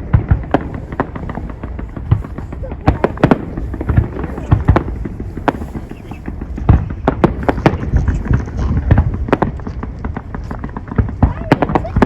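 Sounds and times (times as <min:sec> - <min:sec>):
fireworks bangs and cracks: 0:00.0 - 0:12.0
low rumble: 0:00.0 - 0:12.0.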